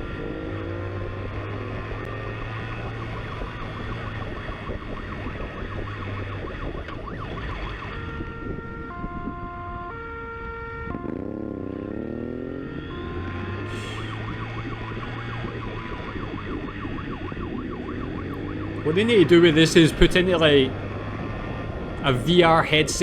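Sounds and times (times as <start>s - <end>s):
electronic siren: 0.0s - 22.1s
motorcycle engine drone: 0.0s - 23.0s.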